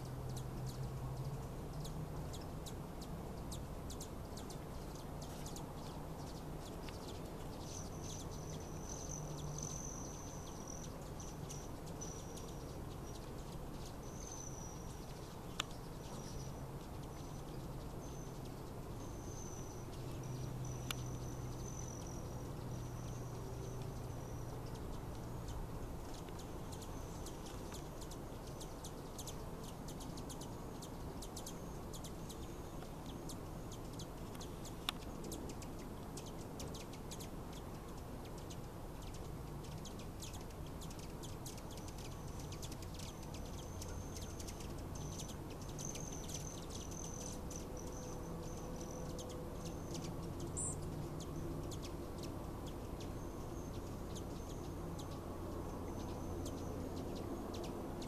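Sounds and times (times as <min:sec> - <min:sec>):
hummingbird chips: 0:00.0 - 0:58.0
hummingbird wing buzz: 0:00.0 - 0:58.0.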